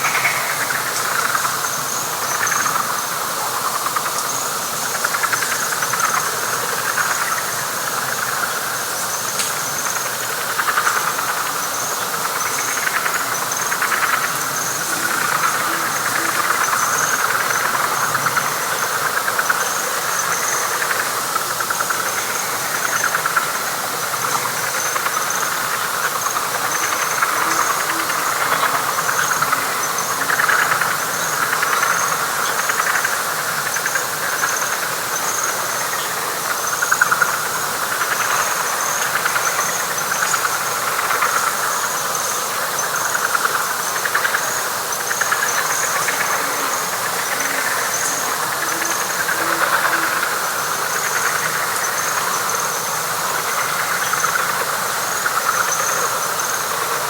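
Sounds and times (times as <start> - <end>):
frog chorus trilling: 0.0 - 57.0.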